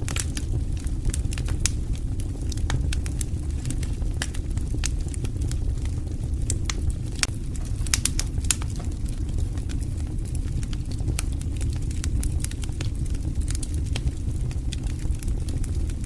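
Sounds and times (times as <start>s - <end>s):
campfire crackling and popping: 0.0s - 16.0s
low rumble of burning fire: 0.0s - 16.0s.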